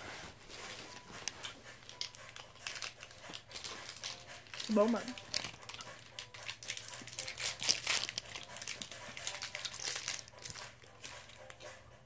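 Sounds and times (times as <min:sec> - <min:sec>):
plastic wrappers crinkling: 0:00.5 - 0:11.6.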